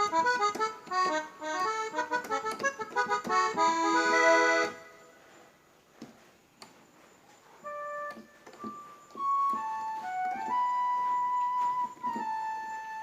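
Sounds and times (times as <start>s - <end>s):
keyboard playing notes: 0.0s - 5.2s, 7.6s - 13.0s.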